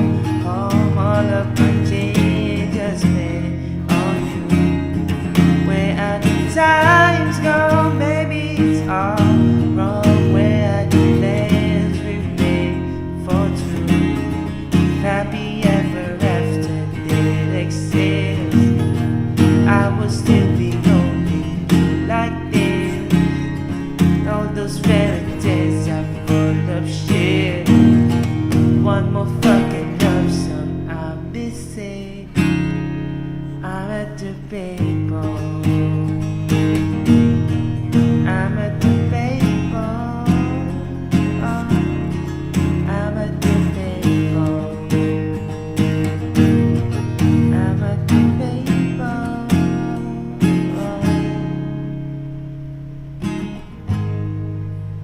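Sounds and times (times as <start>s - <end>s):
person singing: 0.0s - 32.8s, 33.5s - 51.7s
acoustic guitar strumming: 0.0s - 55.0s.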